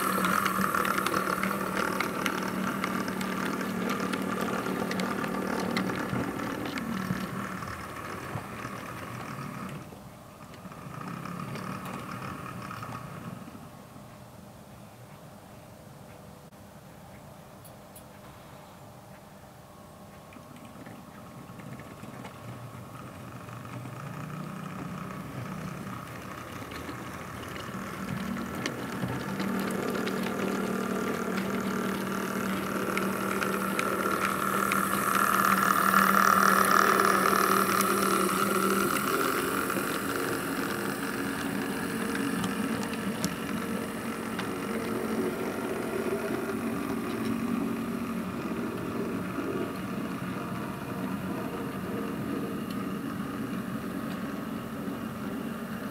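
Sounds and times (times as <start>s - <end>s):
model train engine drone: 0.0s - 14.5s, 20.7s - 55.9s.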